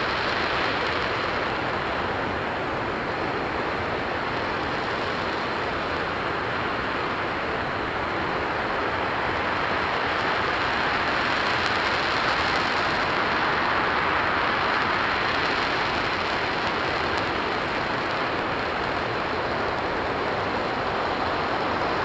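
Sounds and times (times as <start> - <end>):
rocket engine roar: 0.0 - 22.0.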